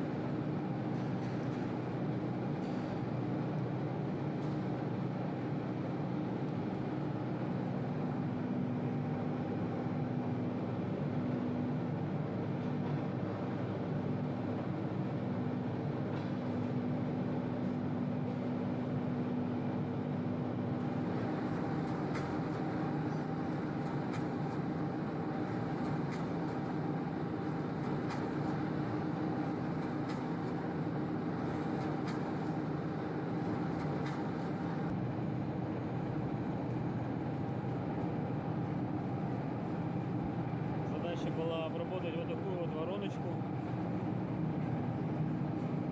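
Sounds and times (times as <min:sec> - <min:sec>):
workshop machinery humming: 0:00.0 - 0:45.9.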